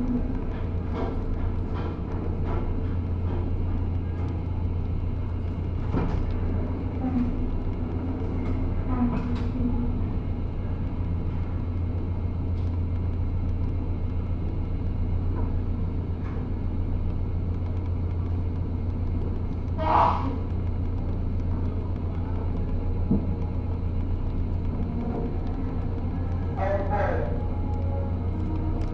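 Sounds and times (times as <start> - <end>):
ferry engines rumbling: 0.0 - 28.9.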